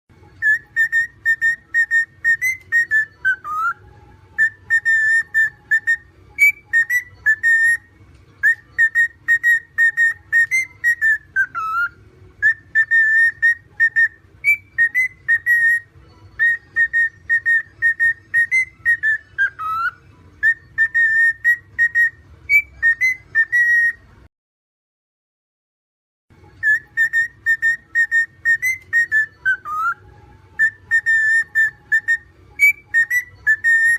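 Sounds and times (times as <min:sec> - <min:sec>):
cockatiel whistling a tune: 0:00.3 - 0:24.2, 0:26.5 - 0:33.9.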